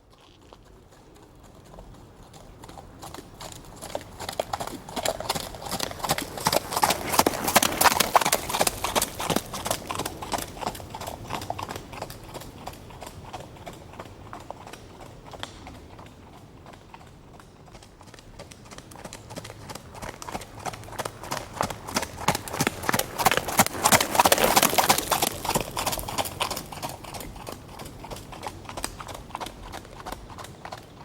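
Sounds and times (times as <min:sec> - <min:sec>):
horse hooves clip-clopping: 0:00.0 - 0:31.0.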